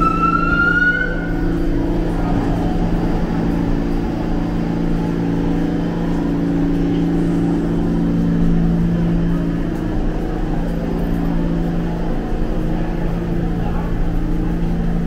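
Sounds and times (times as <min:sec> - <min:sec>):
low rumble: 0:00.0 - 0:15.0
subway train electrical hum: 0:00.0 - 0:15.0.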